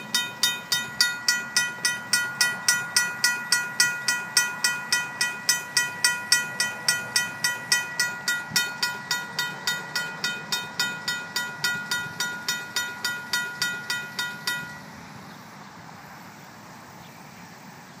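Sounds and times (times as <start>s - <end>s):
crossing bell ringing: 0.0s - 15.1s.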